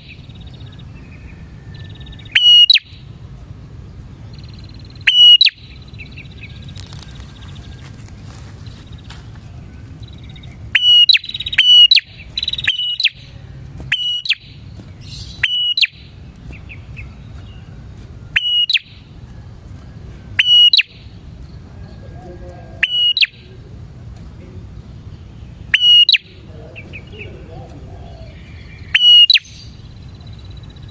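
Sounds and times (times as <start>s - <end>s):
bird singing sharp phrases: 0.0s - 30.9s.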